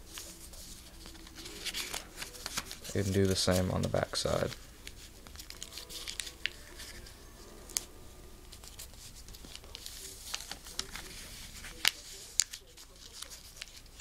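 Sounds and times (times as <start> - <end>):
paper crinkling and rustling: 0.0 - 14.0.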